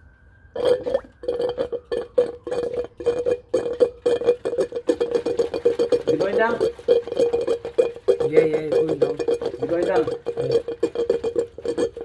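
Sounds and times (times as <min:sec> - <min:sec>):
steady held tone: 0:00.0 - 0:12.0
plucked string run: 0:01.8 - 0:12.0.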